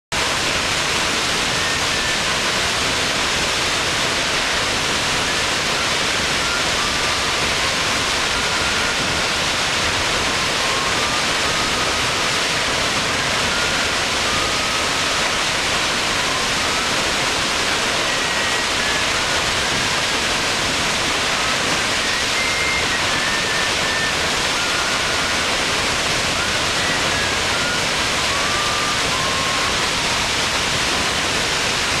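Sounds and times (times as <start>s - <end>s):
waterfall rushing: 0.1s - 32.0s.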